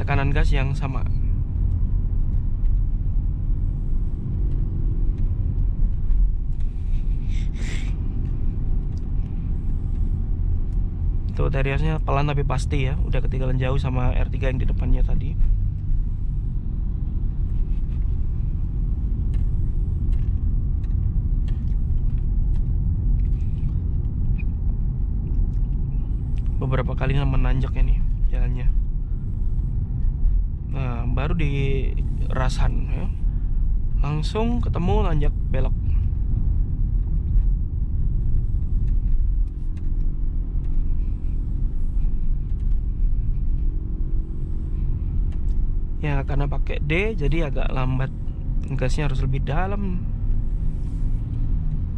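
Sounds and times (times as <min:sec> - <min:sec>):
car engine rumble: 0:00.0 - 0:51.9
tyres on the road: 0:00.0 - 0:51.9.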